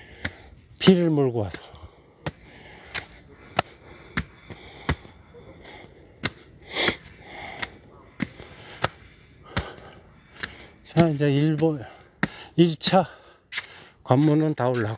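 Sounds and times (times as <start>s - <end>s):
footsteps on trail steps: 0.0s - 14.9s.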